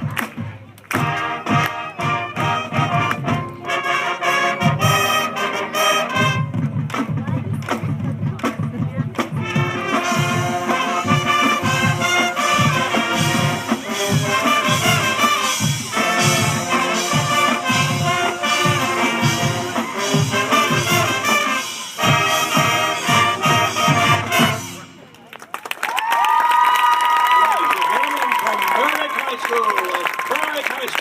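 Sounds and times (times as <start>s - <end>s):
marching band playing: 0.0s - 25.3s.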